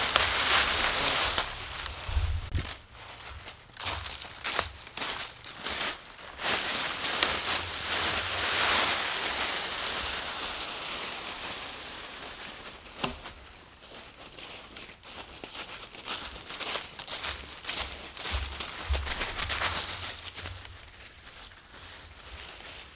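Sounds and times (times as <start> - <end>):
dry leaves rustling underfoot: 0.0 - 22.9
log dragged through leaves: 0.0 - 22.9.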